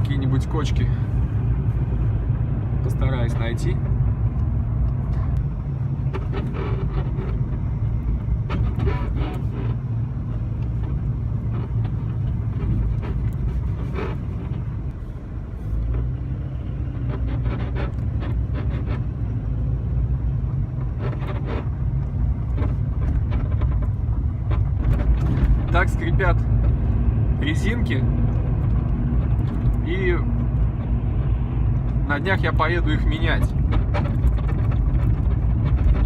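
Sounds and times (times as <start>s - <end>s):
road rumble inside car: 0.0s - 36.0s
rubbery suspension squeaks: 5.6s - 36.0s.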